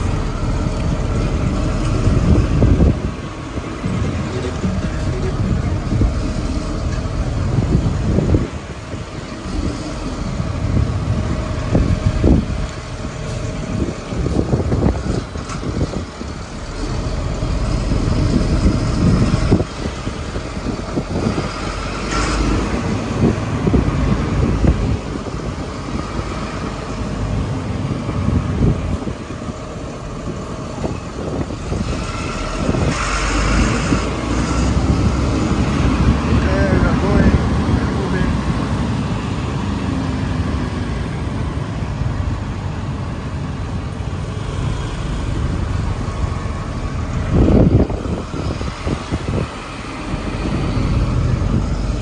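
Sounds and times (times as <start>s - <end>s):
street traffic: 0.0s - 52.0s
wind rumbling on microphone: 0.0s - 52.0s.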